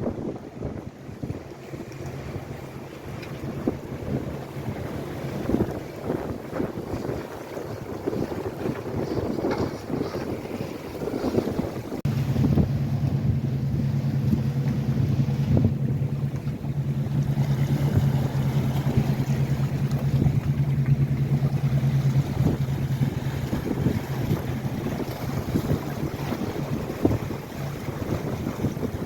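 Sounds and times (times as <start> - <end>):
motorboat engine droning: 0.0 - 29.0
wind rumbling on microphone: 0.0 - 29.0.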